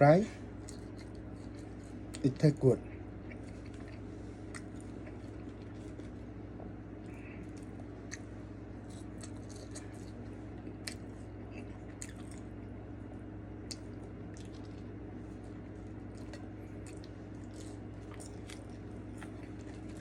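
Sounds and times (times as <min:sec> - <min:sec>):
low hum: 0:00.0 - 0:20.0
person chewing fries: 0:00.4 - 0:20.0.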